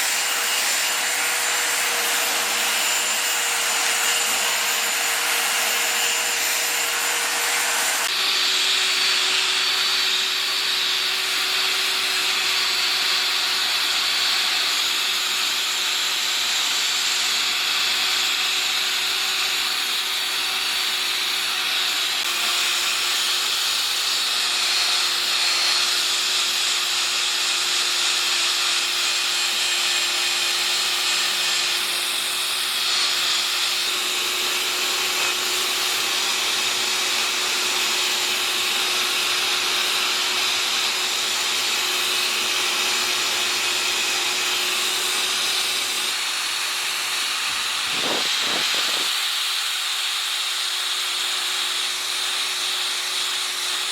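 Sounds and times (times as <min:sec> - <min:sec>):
power tool sanding wood: 0:00.0 - 0:53.9.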